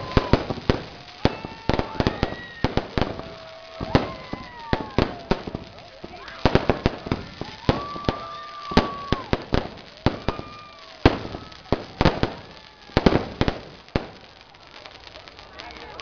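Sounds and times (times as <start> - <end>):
fireworks whistles: 0.0 - 14.3
fireworks bangs: 0.0 - 16.0.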